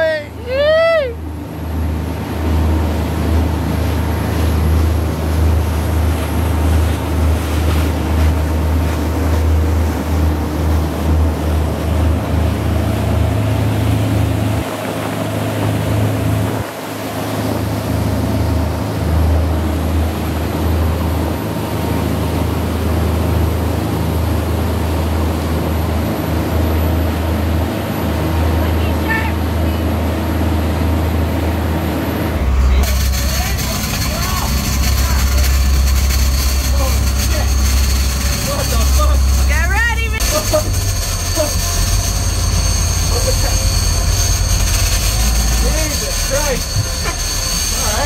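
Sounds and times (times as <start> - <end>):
boat engines rumbling: 0.0 - 48.0
rushing wake water: 0.0 - 48.0
wind: 0.0 - 48.0.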